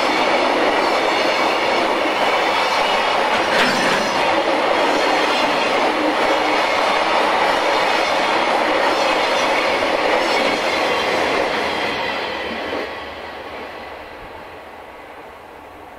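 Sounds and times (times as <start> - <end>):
train wheels running on rails: 0.0 - 15.9.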